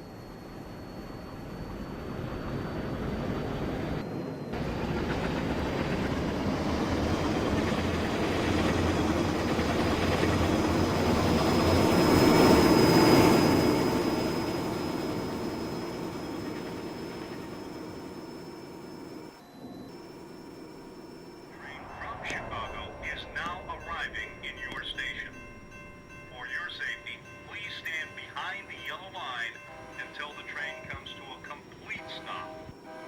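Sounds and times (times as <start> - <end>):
train passing rumble: 0.3 - 33.0.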